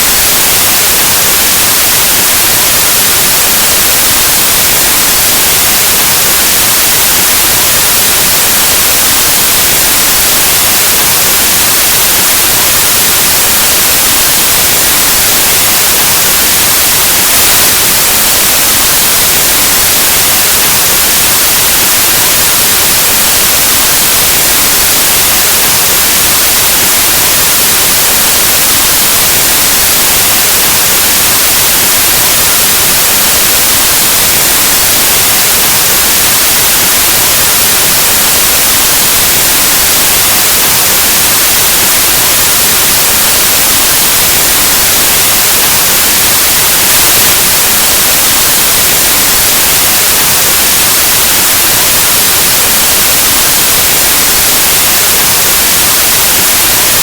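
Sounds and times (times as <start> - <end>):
white noise static hiss: 0.0 - 57.0.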